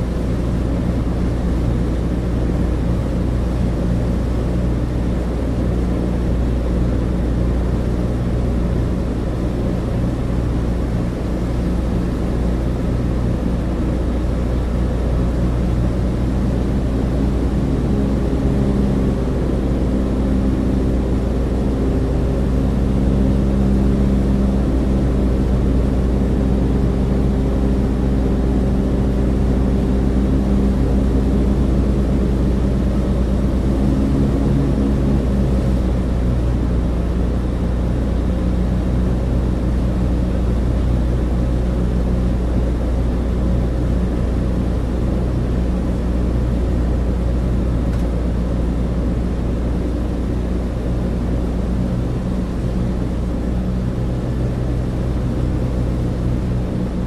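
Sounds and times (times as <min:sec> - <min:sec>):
propeller engines droning in cabin: 0:00.0 - 0:57.0.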